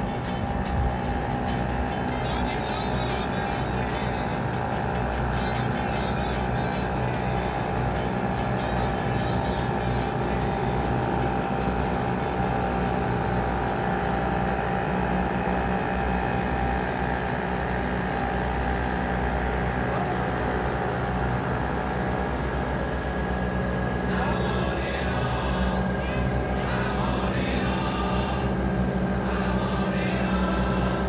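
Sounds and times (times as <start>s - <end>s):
two-stroke outboard motor running: 0.0s - 31.0s.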